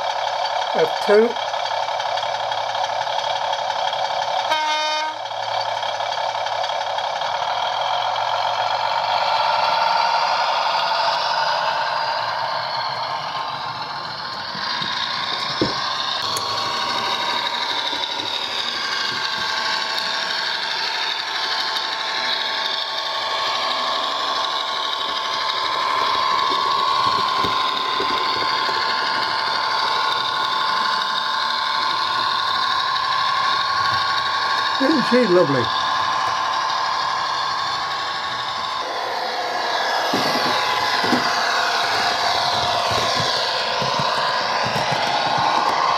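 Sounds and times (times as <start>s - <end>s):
model train diesel engine sound: 0.0s - 45.9s.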